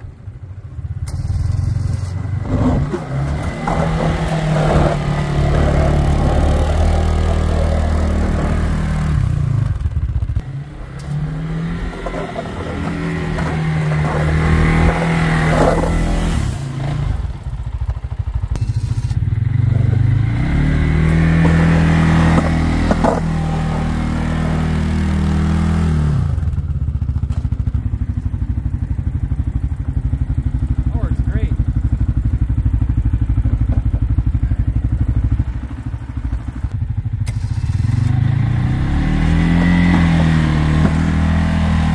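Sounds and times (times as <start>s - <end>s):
atv engine revving and idling: 0.0s - 41.9s
plow blade pushing snow: 1.0s - 28.4s, 32.7s - 41.9s.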